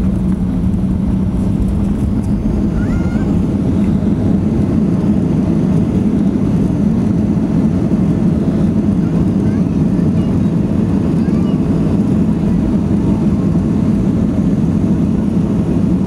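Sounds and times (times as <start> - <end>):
jet engines rumbling: 0.0 - 16.0
steady low hum: 0.0 - 16.0.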